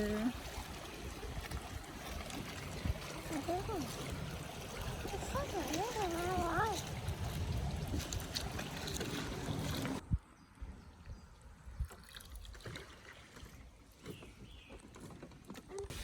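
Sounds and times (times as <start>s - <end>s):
river water running: 0.0s - 10.0s, 11.2s - 16.0s.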